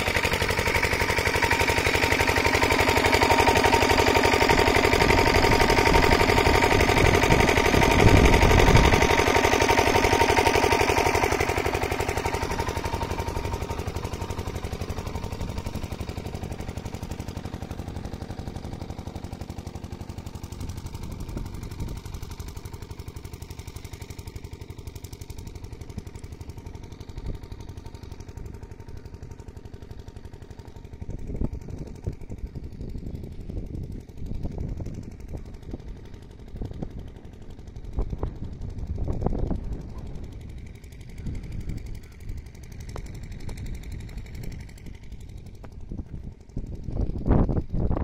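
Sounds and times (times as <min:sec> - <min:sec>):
diesel pump engine thumping: 0:00.0 - 0:48.0.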